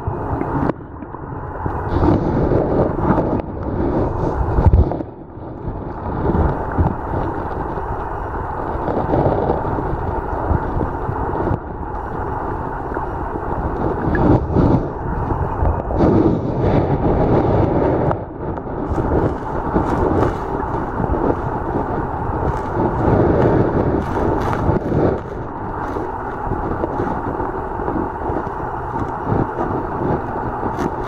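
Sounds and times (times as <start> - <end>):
surf heard underwater: 0.0 - 31.0.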